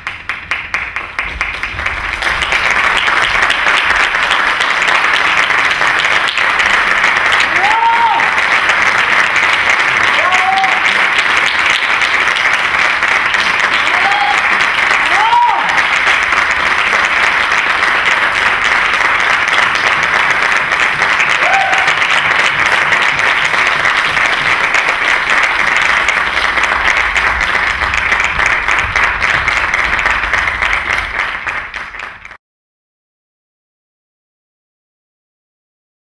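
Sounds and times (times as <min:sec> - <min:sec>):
audience applauding: 0:00.0 - 0:32.4.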